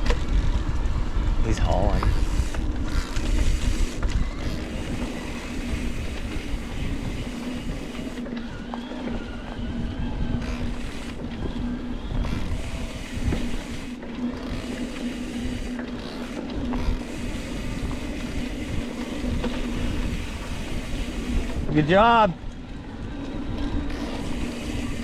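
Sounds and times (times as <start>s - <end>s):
wind rushing over microphone: 0.0s - 15.8s, 16.5s - 25.0s
bike rattling over bumps: 0.0s - 25.0s.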